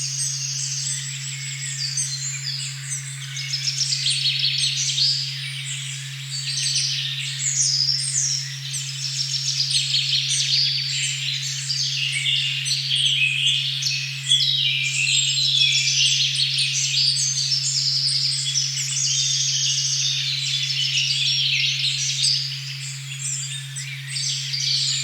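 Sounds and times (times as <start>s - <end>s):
birds singing in chorus: 0.0s - 25.0s.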